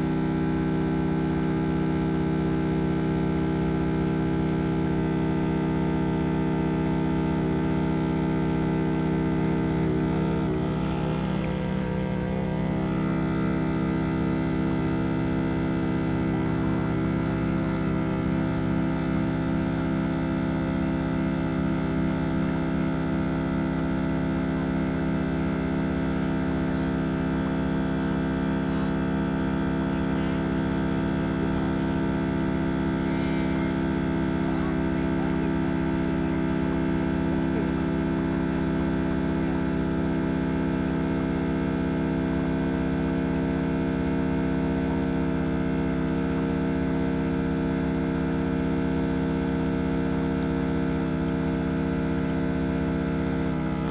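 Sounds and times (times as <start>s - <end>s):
boat engine humming: 0.0s - 53.9s.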